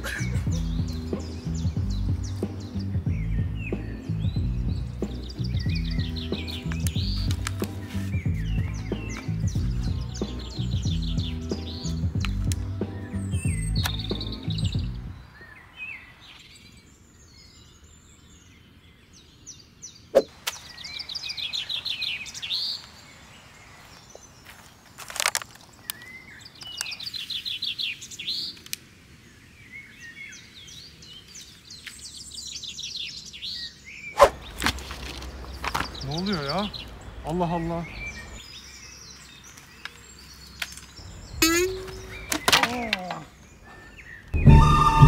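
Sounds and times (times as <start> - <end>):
songbirds singing trills: 0.0 - 45.0.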